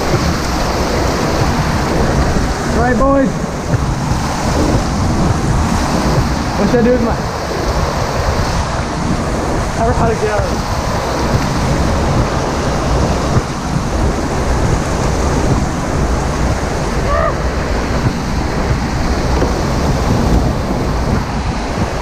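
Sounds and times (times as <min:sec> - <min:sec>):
waterfall rushing: 0:00.0 - 0:22.0
wind buffeting microphone: 0:00.0 - 0:22.0.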